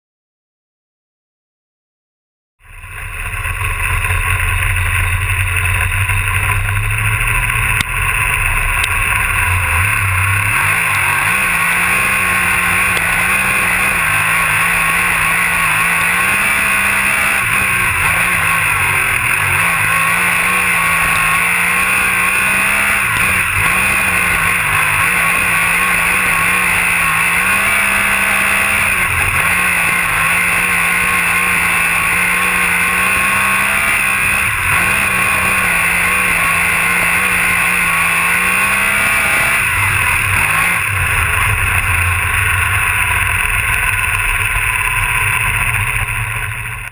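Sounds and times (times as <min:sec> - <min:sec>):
racing car engine: 0:02.6 - 0:46.9.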